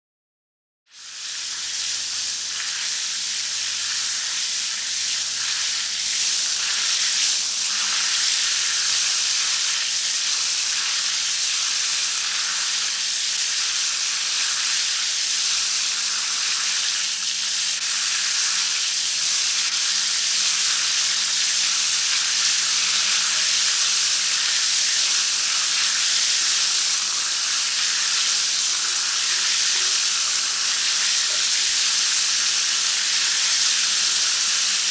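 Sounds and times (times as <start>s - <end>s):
shower spray hissing: 0.9s - 34.9s.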